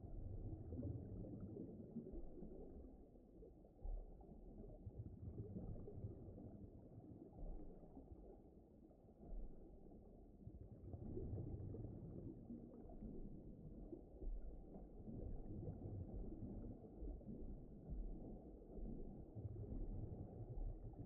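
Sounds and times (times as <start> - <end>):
deep underwater rumble: 0.0 - 21.0.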